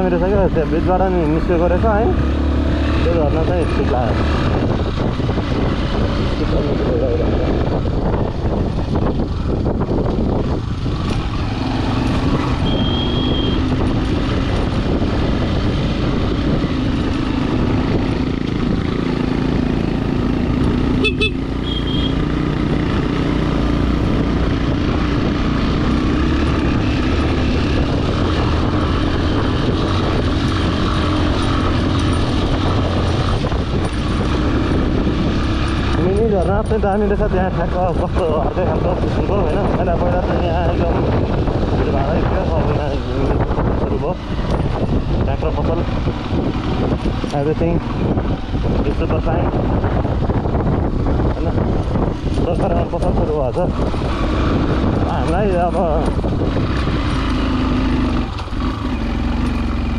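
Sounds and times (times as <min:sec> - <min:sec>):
motorcycle engine on dirt track: 0:00.0 - 0:59.9.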